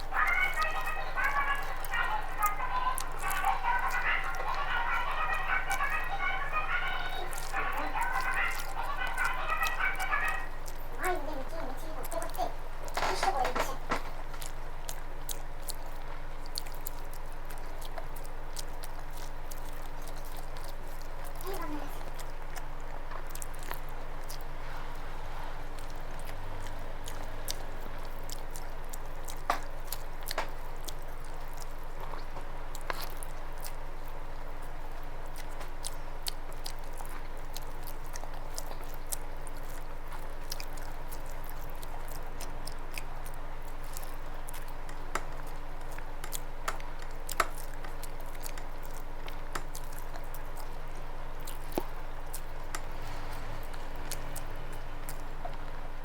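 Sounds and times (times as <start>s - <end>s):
background hum: 0.0s - 56.0s
person chewing: 0.0s - 56.0s.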